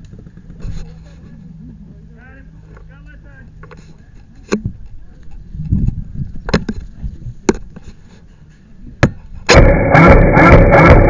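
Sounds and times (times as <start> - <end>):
handling and movement rumble: 0.0 - 11.0.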